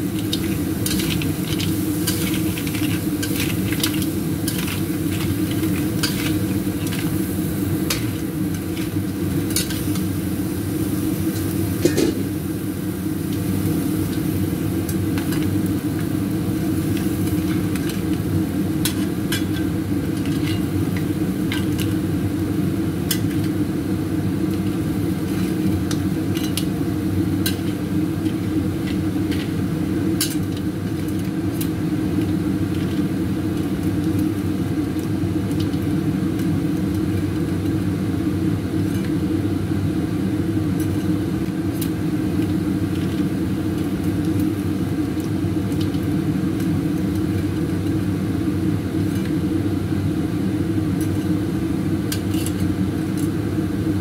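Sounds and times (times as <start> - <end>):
kitchen noise rumble: 0.0 - 54.0.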